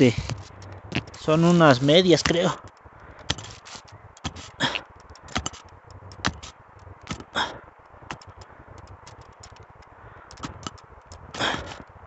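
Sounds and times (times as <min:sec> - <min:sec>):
hand pick digging dry soil: 0:00.0 - 0:09.6, 0:10.3 - 0:11.8.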